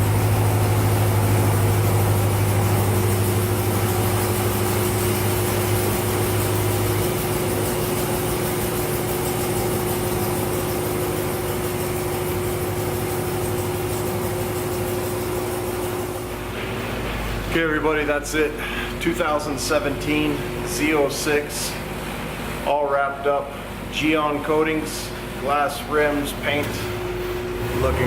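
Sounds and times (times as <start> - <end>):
car engine low drone: 0.0 - 28.0
steady higher hum: 0.0 - 28.0.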